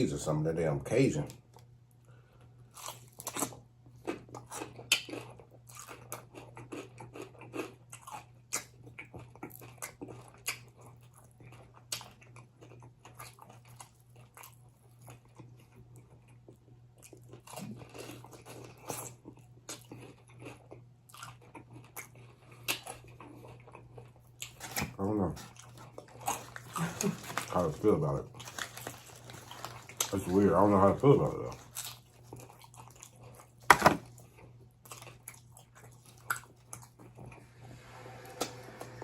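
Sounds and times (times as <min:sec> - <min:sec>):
person chewing and biting: 0:02.7 - 0:27.7, 0:28.3 - 0:37.4.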